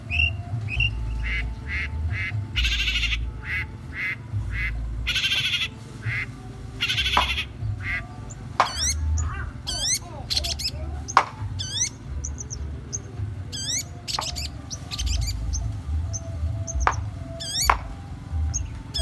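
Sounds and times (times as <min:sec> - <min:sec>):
bird harsh wavering calls: 0:00.0 - 0:19.0
bird repeating short notes: 0:00.1 - 0:19.0.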